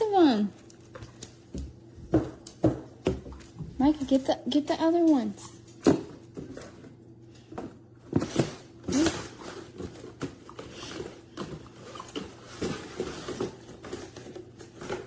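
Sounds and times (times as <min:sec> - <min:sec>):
dog rustling and knocking toys: 0:00.6 - 0:04.3, 0:05.6 - 0:15.0.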